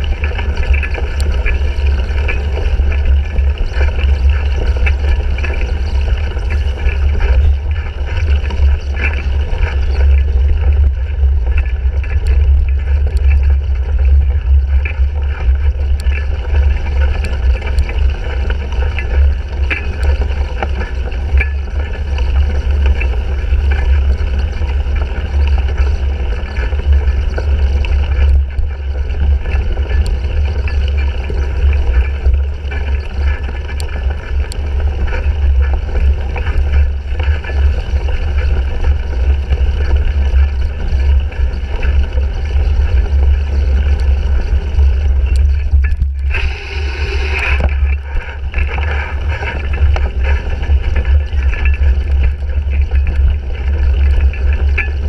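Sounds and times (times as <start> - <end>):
bike rattling and clicking: 0.0 - 55.0
wind rumble on microphone: 0.0 - 55.0.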